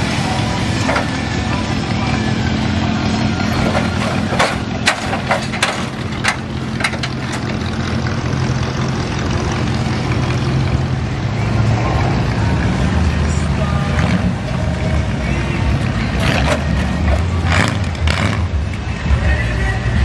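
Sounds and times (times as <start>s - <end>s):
car engines running at low speed: 0.0s - 20.0s.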